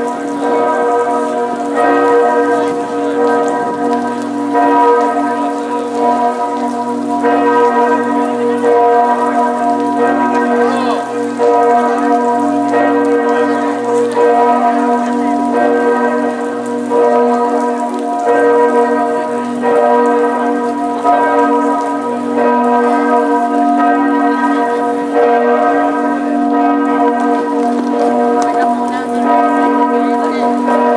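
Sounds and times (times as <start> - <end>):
large bells ringing: 0.0 - 30.9.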